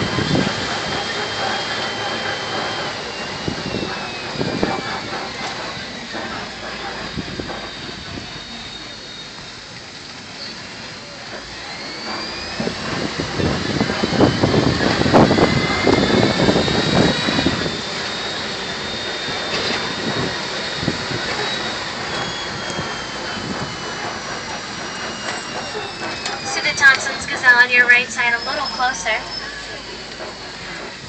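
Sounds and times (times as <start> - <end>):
high whine gliding in pitch: 0.0 - 31.0
truck engine and road noise: 0.0 - 31.0.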